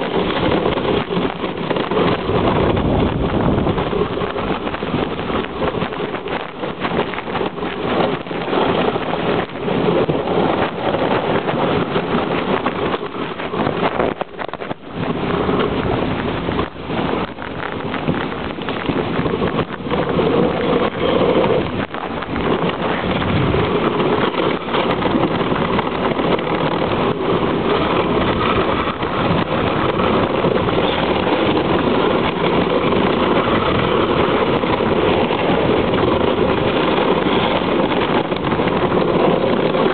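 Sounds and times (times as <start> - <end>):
sled runners scraping snow: 0.0 - 39.9
wind buffeting microphone: 0.0 - 39.9.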